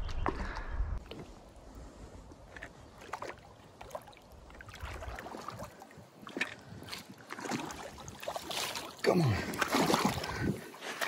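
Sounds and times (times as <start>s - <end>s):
creek water splashing: 1.0s - 11.0s.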